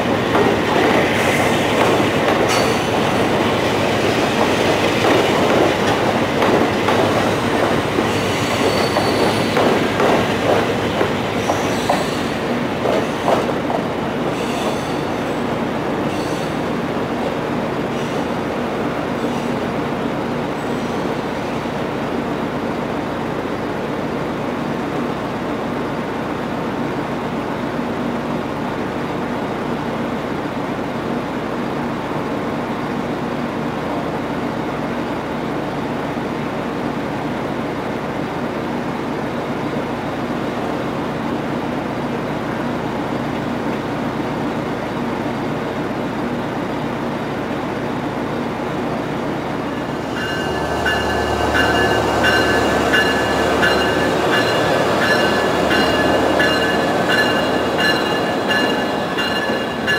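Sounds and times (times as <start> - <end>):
passenger train pulling out: 0.0 - 59.9.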